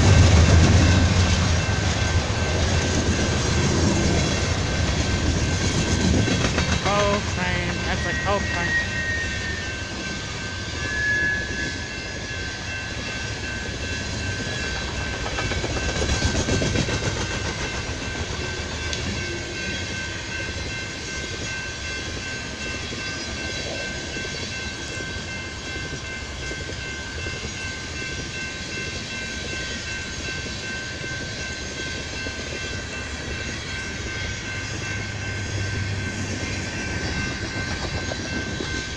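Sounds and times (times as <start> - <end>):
crossing signal bell: 0.0 - 38.9
freight train rolling on rails: 0.0 - 38.9.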